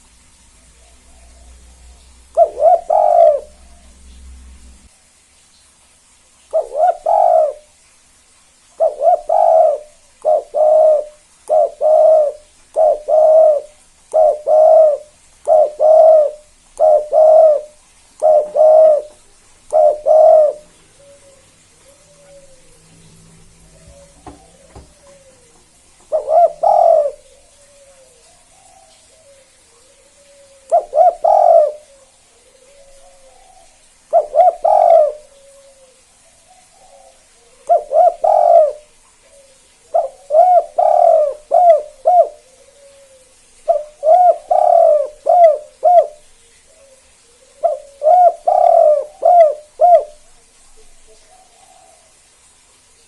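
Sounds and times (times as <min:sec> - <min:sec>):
dove cooing: 0:00.6 - 0:04.1, 0:06.5 - 0:07.7, 0:08.8 - 0:52.3.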